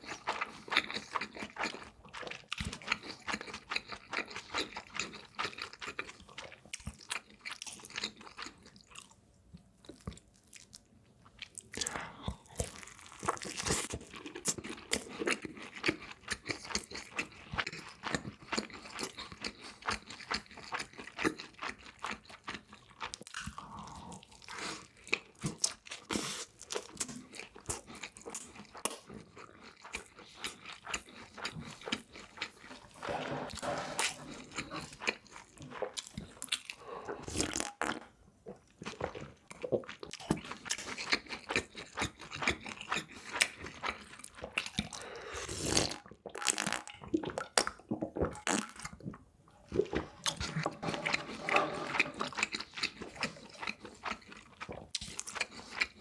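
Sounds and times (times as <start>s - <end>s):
person chewing crunchy food: 0.0s - 9.2s, 9.8s - 56.0s.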